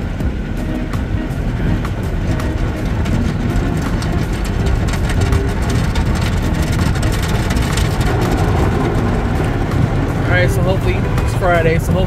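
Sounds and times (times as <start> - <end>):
car wash machinery rumble: 0.0 - 12.0
water spraying on car: 0.0 - 12.0.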